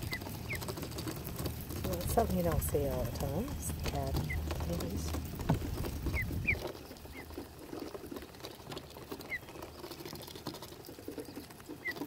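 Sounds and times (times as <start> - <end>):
bills pecking on wooden dock: 0.0 - 12.0
ducklings peeping: 0.0 - 12.0.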